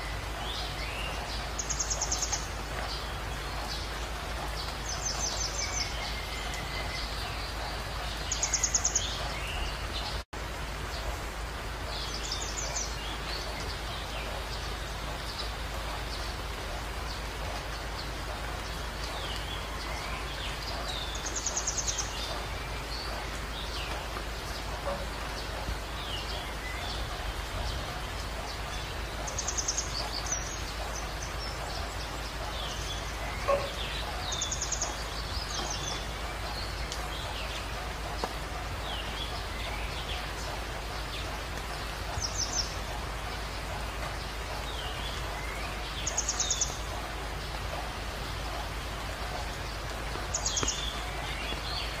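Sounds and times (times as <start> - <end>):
small birds chirping: 0.0 - 52.0
steady background hiss: 0.0 - 52.0.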